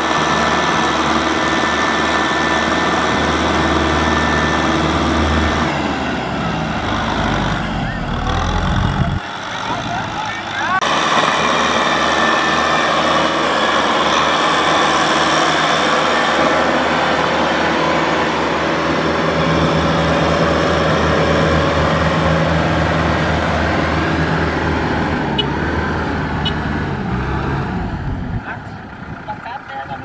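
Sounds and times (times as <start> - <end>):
tractor diesel engines running: 0.0 - 30.0.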